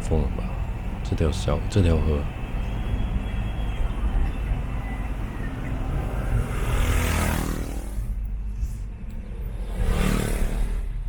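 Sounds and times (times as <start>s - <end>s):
road rumble: 0.0s - 11.0s
vehicle engine: 0.0s - 11.0s.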